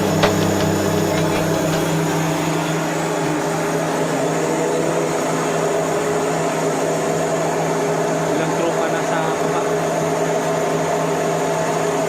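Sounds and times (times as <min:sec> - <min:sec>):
machine humming: 0:00.0 - 0:10.3.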